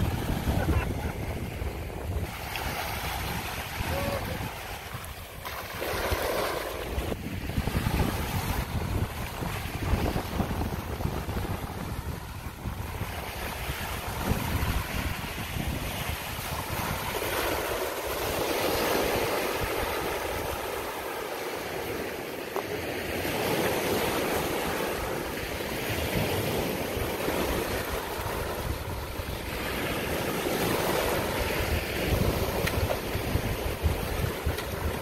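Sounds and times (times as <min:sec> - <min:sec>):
small waves breaking on beach: 0:00.0 - 0:35.0
wind buffeting microphone: 0:00.0 - 0:35.0.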